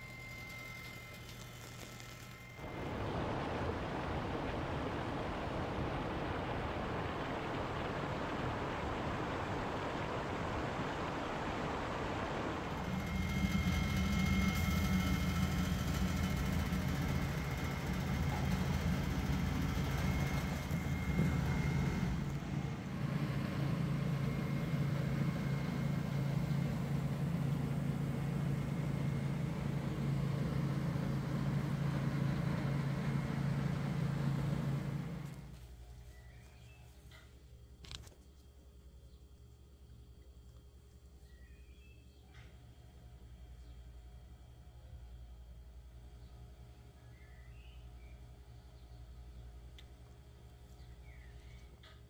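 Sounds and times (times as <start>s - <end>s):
low mechanical hum with whine: 0.0s - 52.0s.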